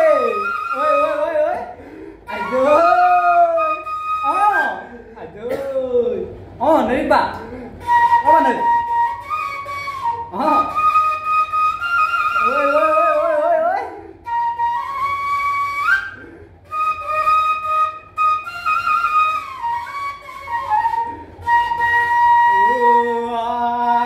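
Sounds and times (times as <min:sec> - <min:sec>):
bamboo flute melody: 0:00.0 - 0:05.0, 0:07.8 - 0:24.0.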